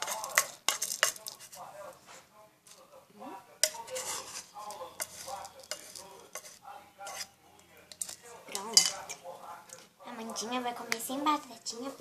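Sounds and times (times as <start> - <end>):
spoon scraping and clinking on pots: 0.0 - 1.7, 3.6 - 11.8.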